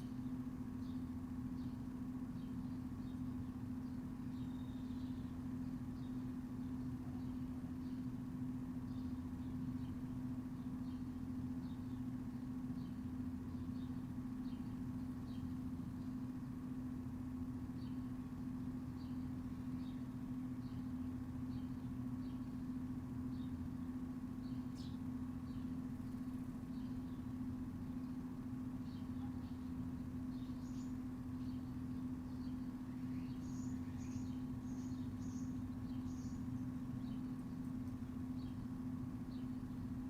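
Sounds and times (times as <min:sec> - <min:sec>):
small birds chirping: 0:00.0 - 0:40.0
steady low hum: 0:00.0 - 0:40.0.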